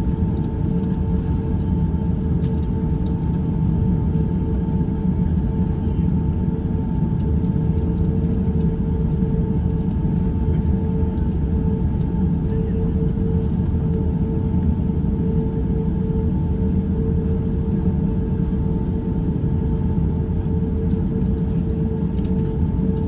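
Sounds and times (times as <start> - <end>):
aircraft cabin low rumble: 0.0 - 23.0.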